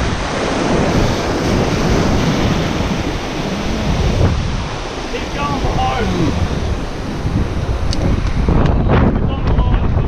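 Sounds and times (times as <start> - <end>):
ocean surf washing ashore: 0.0 - 10.0
wind buffeting microphone: 0.0 - 10.0.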